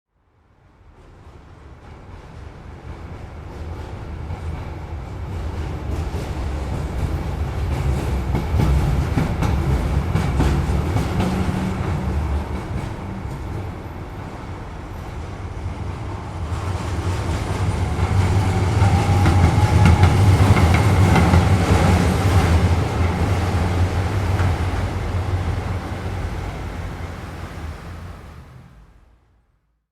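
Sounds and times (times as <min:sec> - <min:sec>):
train passing rumble: 0:00.3 - 0:29.4.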